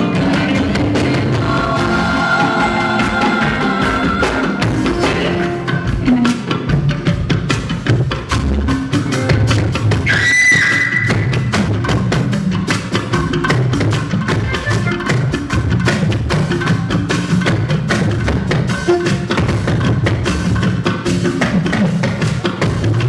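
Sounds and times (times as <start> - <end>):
sharp percussion strikes: 0.0 - 23.0.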